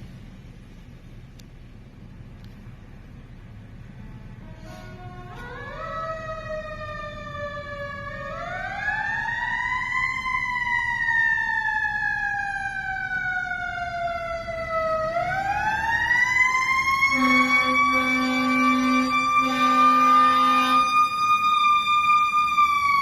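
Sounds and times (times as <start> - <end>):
low truck rumble: 0.0 - 23.0
fire engine siren wailing: 3.8 - 23.0.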